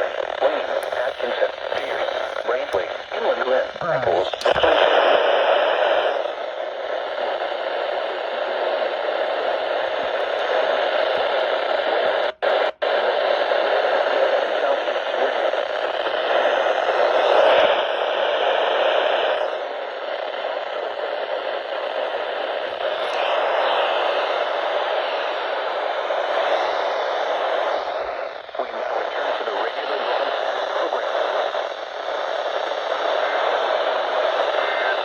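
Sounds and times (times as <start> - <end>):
radio static hiss: 0.0 - 35.0.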